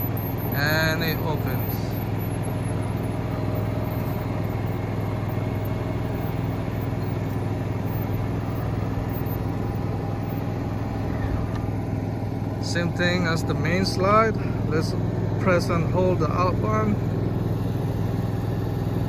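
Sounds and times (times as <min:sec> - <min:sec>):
generator running: 0:00.0 - 0:19.0.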